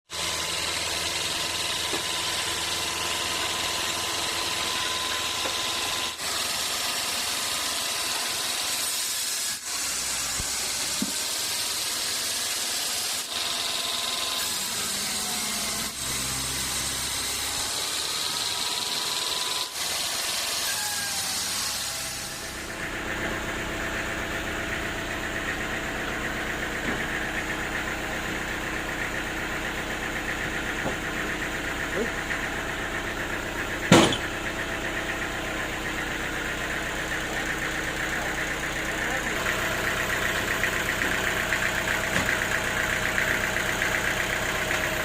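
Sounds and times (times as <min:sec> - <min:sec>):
sawmill cutting log: 0:00.1 - 0:45.0.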